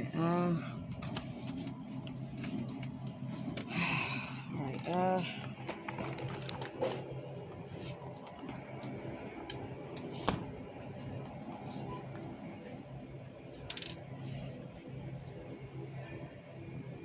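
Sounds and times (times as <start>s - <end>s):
freezer cases humming: 0.0s - 17.0s.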